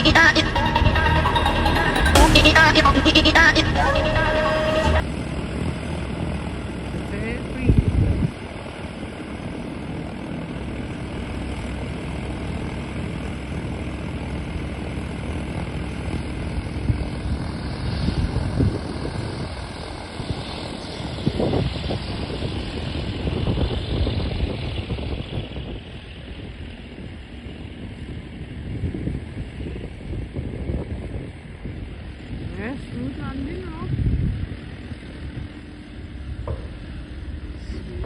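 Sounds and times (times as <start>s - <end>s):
propeller aircraft engine running: 0.0s - 38.0s.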